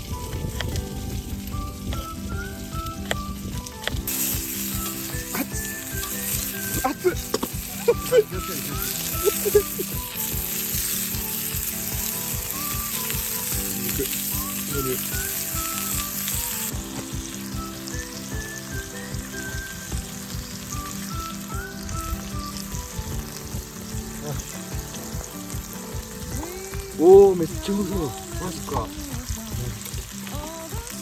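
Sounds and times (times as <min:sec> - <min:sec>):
meat sizzling in a hot pan: 0:00.0 - 0:31.0.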